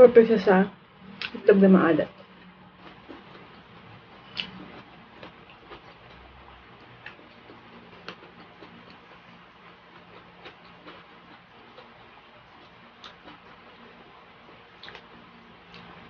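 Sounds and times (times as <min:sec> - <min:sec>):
faint low hum: 0:00.0 - 0:16.0
chewing: 0:02.2 - 0:16.0.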